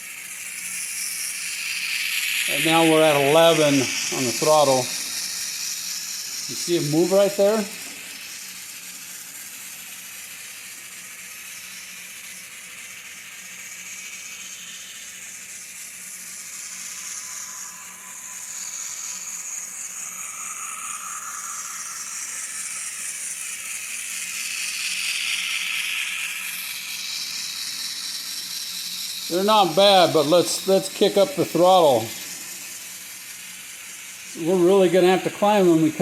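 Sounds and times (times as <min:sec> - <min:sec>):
faint motor whine: 0:00.0 - 0:36.0
train wheels hissing on rails: 0:00.0 - 0:36.0.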